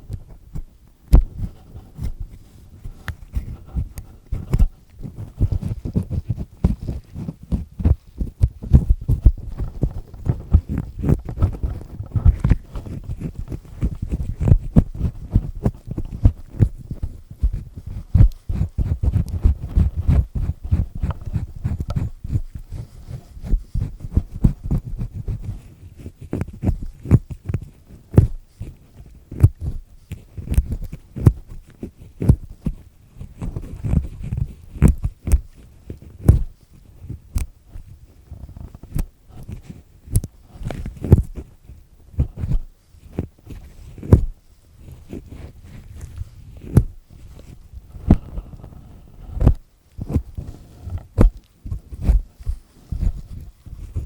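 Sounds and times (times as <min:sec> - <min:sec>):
ear pick scratching inside ear: 0:00.0 - 0:54.0.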